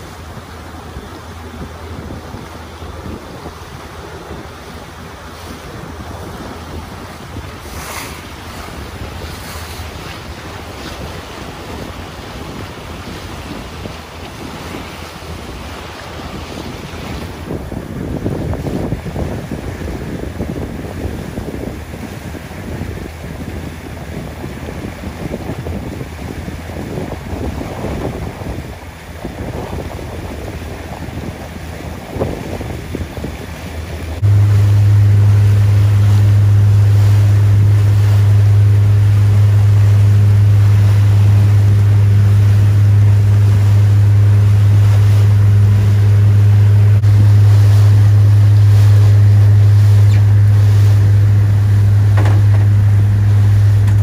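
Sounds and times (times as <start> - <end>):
low mechanical drone: 0.0 - 54.0
wind buffeting microphone: 0.0 - 54.0.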